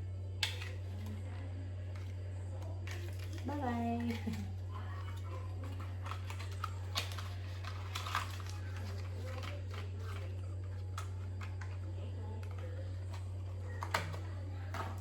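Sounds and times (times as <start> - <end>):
steady low hum: 0.0 - 15.0
items being handled clicking: 1.9 - 15.0.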